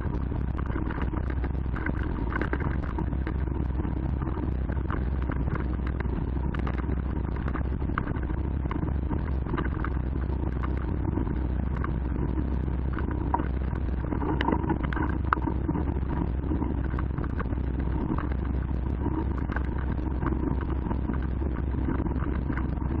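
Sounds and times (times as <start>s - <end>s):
bike tyres rumbling on gravel: 0.0s - 23.0s.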